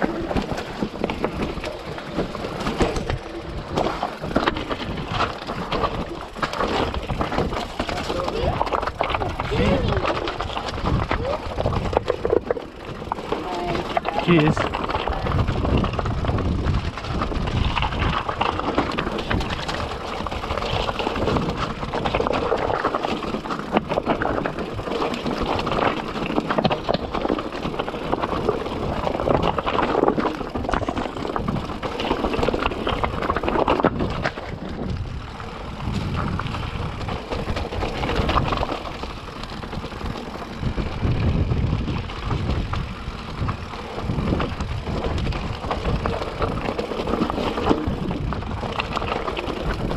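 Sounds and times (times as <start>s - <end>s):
bike rattling: 0.0s - 49.9s
tyres crunching on stones: 0.0s - 49.9s
wind rumble on microphone: 0.0s - 49.9s.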